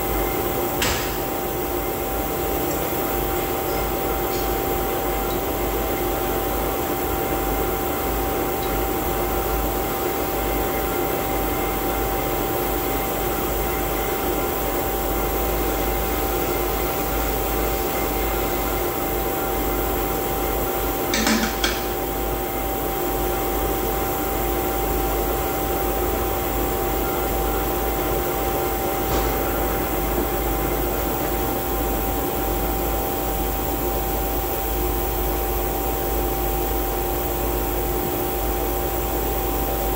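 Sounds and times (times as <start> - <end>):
machinery hum with whine: 0.0 - 39.9.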